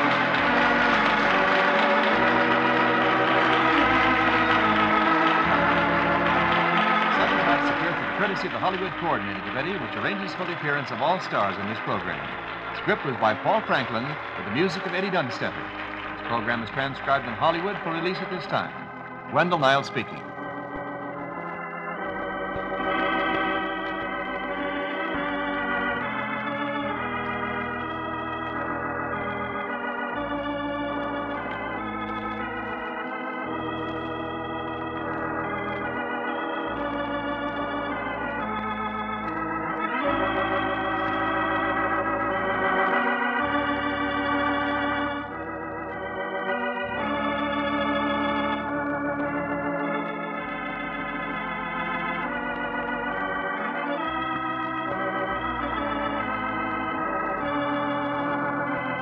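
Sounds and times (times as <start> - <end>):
organ playing chords: 0.0 - 59.0.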